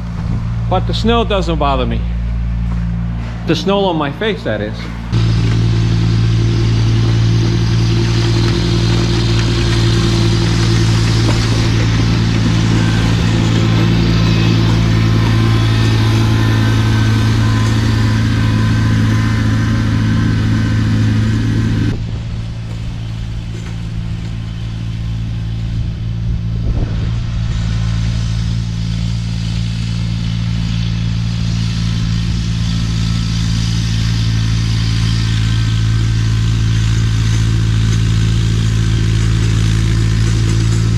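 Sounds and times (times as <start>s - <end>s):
snowblower whirring: 0.0s - 40.9s
tractor engine running: 0.0s - 40.9s.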